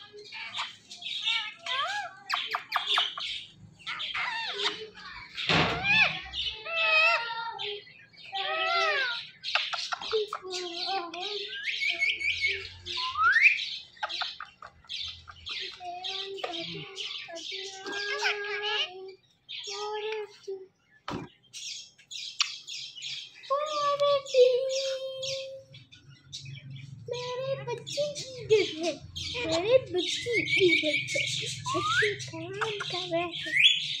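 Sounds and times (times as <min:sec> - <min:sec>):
parakeets chattering and squawking: 0:00.0 - 0:34.0.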